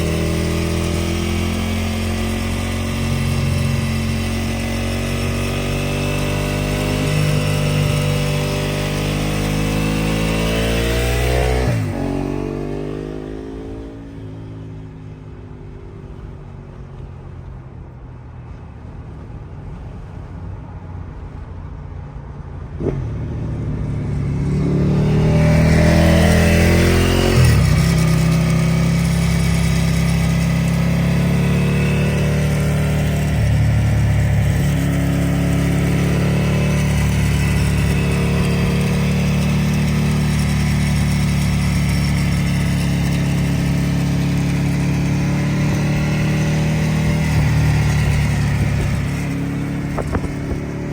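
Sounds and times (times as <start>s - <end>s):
motorcycle engine running: 0.0s - 14.7s, 22.8s - 50.9s.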